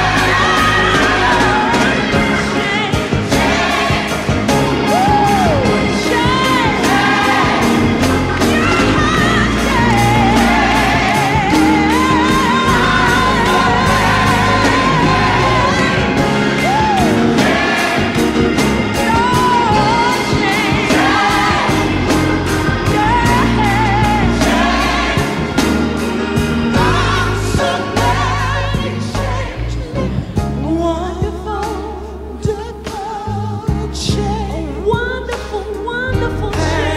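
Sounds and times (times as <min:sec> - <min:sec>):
band with steady beat and bass: 0:00.0 - 0:36.9.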